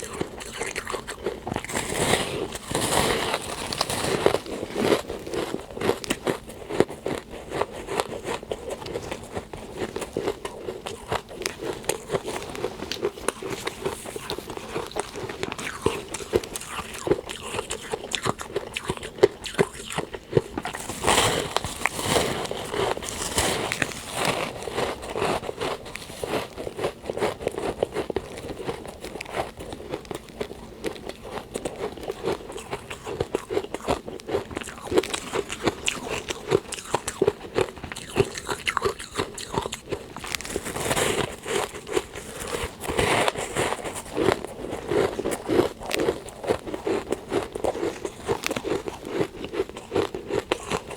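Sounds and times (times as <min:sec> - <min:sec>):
chewing frost crunches: 0:00.0 - 0:50.9.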